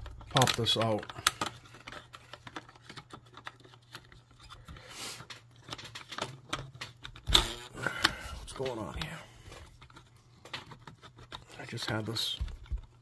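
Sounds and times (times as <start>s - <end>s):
hands handling radio: 0.0s - 13.0s.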